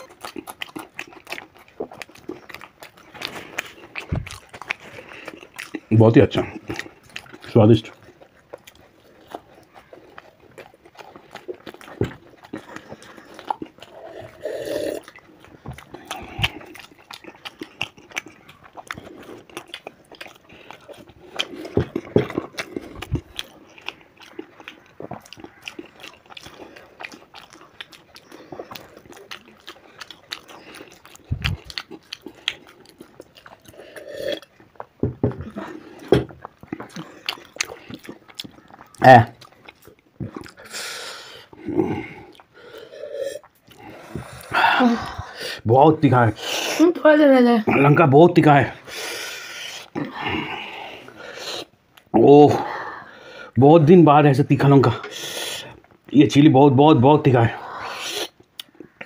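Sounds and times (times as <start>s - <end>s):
people chewing food: 0.0s - 59.0s.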